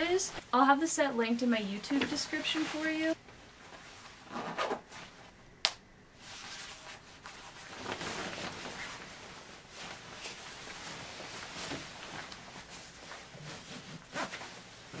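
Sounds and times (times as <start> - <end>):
jacket fabric rustling: 0.0 - 5.4, 6.2 - 15.0.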